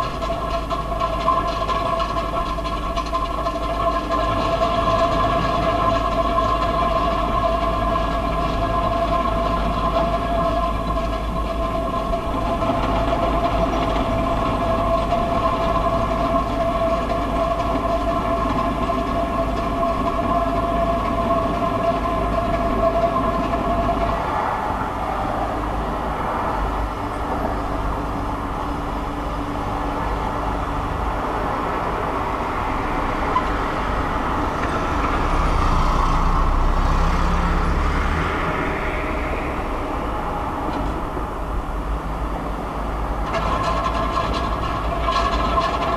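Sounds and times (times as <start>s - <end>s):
continuous low rumble: 0.0s - 45.9s
steady high whining tones: 0.0s - 45.9s.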